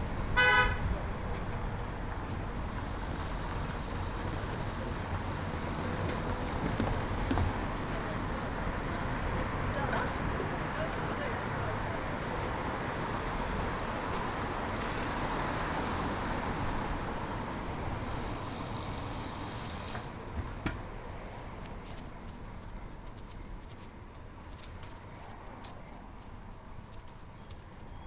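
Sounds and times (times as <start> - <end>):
traffic hiss: 0.0 - 28.0
wind while cycling: 0.0 - 28.0.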